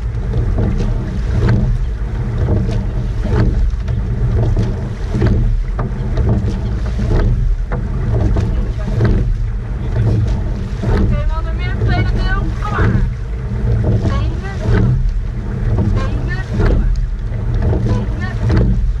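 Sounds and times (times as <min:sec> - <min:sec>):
oars knocking in oarlocks: 0:00.0 - 0:19.0
oars splashing: 0:00.0 - 0:19.0
water along hull: 0:00.0 - 0:19.0
wind rumble on microphone: 0:00.0 - 0:19.0.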